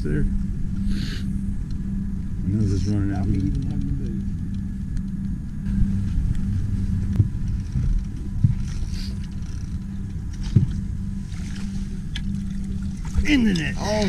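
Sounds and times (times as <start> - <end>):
outboard motor humming: 0.0 - 14.0.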